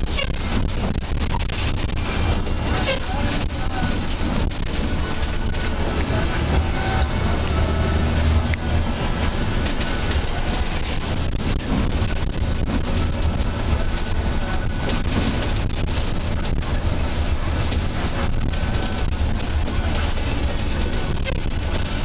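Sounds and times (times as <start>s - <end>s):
bus engine and road rumble: 0.0s - 22.0s
knocks and rattles: 0.0s - 22.0s.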